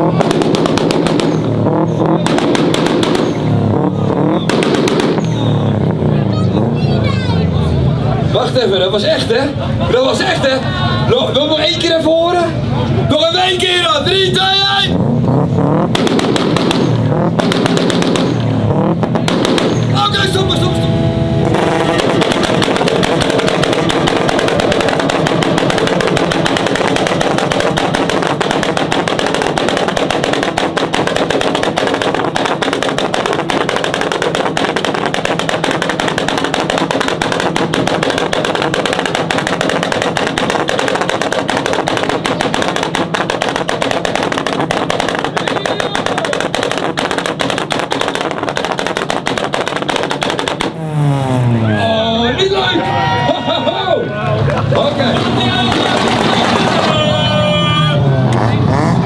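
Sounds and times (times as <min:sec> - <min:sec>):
car exhaust bangs and pops: 0:00.0 - 0:07.1, 0:13.1 - 0:51.6, 0:54.4 - 0:57.5, 0:58.3 - 0:59.0.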